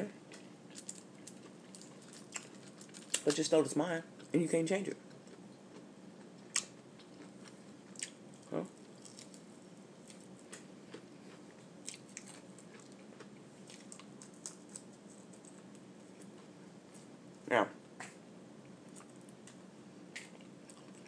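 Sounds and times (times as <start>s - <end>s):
person chewing food: 0.3s - 3.3s, 5.0s - 17.2s, 18.6s - 21.0s.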